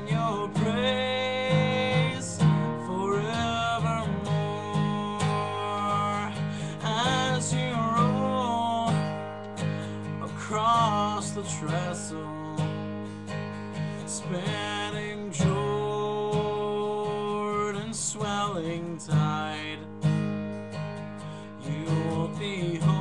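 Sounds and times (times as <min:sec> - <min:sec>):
man singing with vibrato: 0:00.0 - 0:20.1, 0:21.3 - 0:23.0
acoustic guitar strumming: 0:00.0 - 0:23.0.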